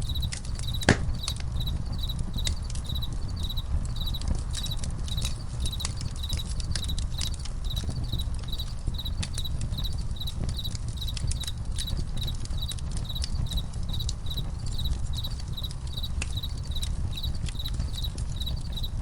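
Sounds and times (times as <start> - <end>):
campfire crackling and popping: 0.0 - 19.0
crickets chirping: 0.0 - 19.0.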